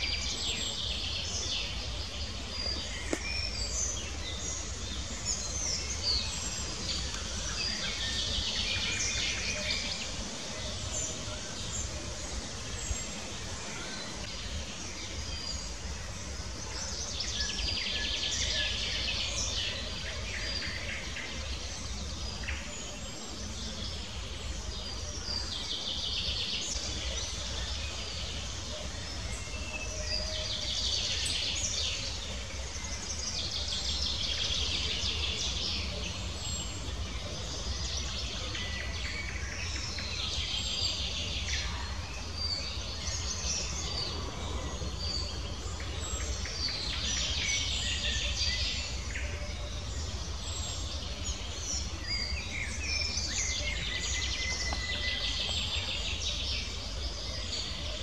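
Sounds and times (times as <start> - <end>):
songbirds trilling: 0.0 - 58.0.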